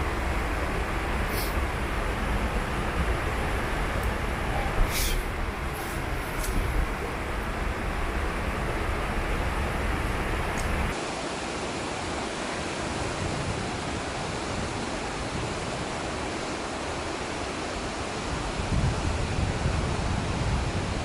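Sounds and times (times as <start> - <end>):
white water rushing: 0.0 - 21.0.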